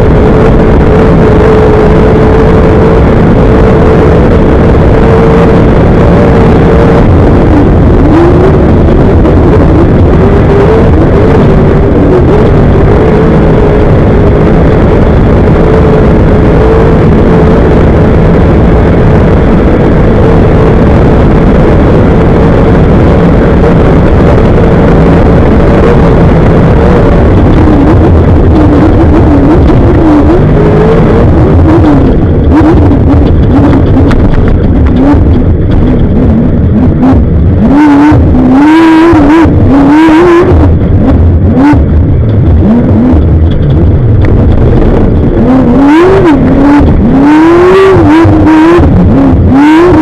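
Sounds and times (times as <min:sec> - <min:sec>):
race vehicle engine revving high: 0:00.0 - 0:50.0.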